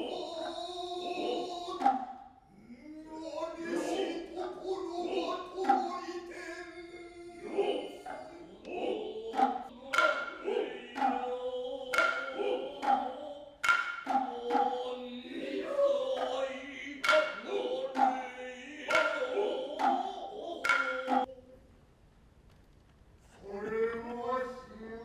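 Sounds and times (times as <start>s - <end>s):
drawn-out chanting voice: 0.0s - 21.7s, 23.3s - 25.0s.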